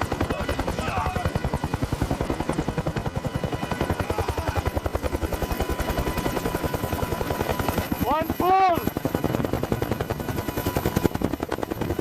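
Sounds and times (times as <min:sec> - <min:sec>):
helicopter rotor chopping: 0:00.0 - 0:12.0.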